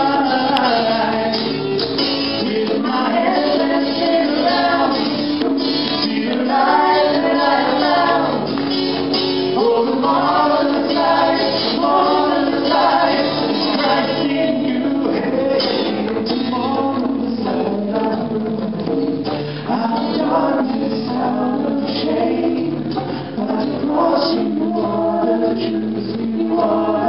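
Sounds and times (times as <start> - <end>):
acoustic guitar: 0.0 - 27.0
drums: 0.0 - 27.0
man and woman singing: 0.0 - 27.0.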